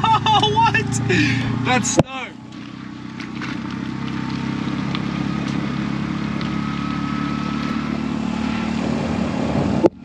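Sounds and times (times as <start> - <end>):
auto rickshaw engine running: 0.0 - 10.0.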